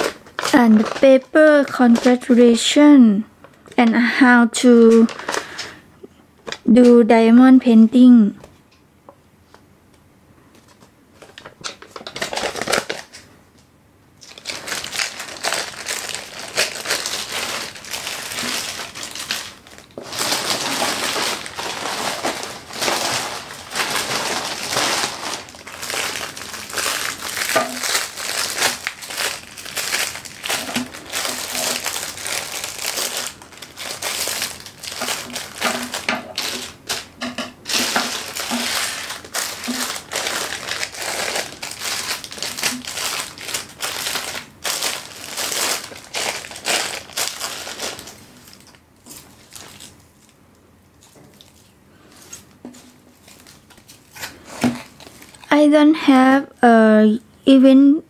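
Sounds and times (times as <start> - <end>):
plastic bags crinkling: 0.0 - 2.7, 4.8 - 5.8, 10.7 - 13.3, 14.2 - 55.6.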